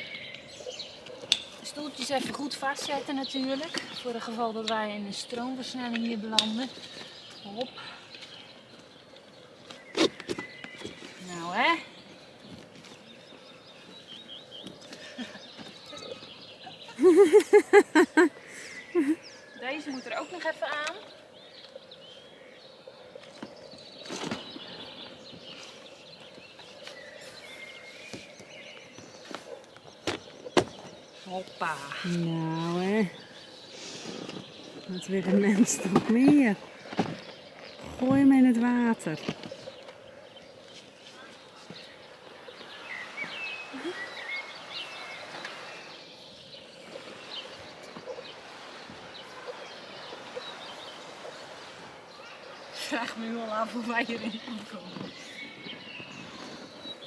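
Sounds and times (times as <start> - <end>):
birds chirping and singing: 0.0 - 57.0
outdoor background noise: 0.0 - 57.0.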